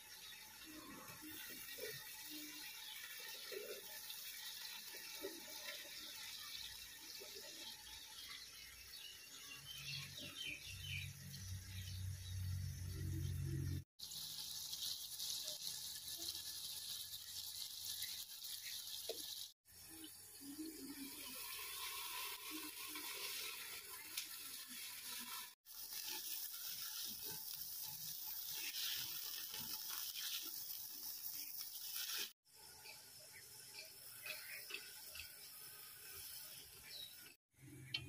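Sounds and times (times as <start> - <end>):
food sizzling in a pot: 0.0 - 38.0.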